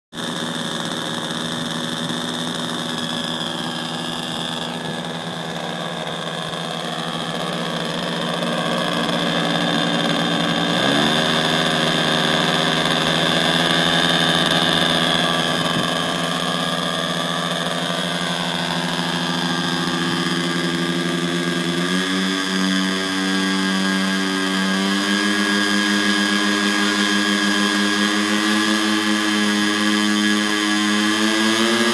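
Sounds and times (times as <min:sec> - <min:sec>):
model aircraft engines droning: 0:00.1 - 0:31.9.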